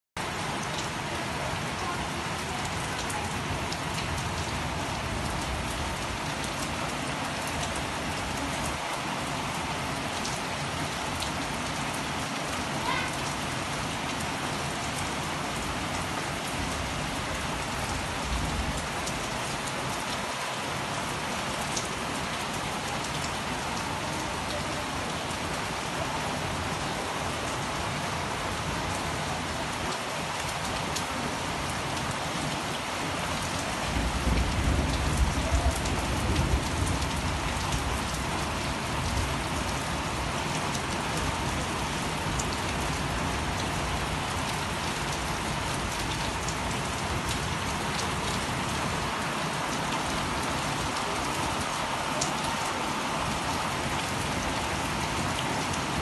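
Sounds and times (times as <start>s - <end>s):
heavy rain falling: 0.2s - 56.0s.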